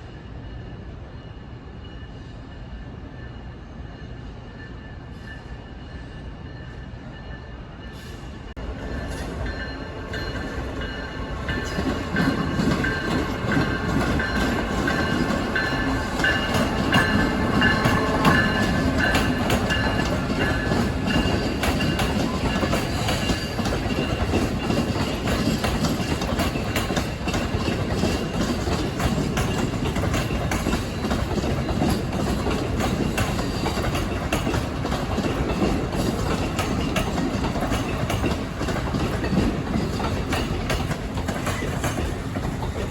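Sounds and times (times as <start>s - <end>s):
train wheels clicking on rails: 7.9s - 42.9s.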